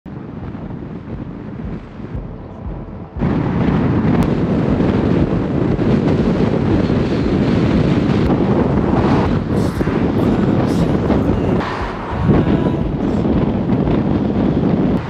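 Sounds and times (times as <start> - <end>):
road and car noise: 0.1 - 15.0
wind buffeting microphone: 0.1 - 15.0.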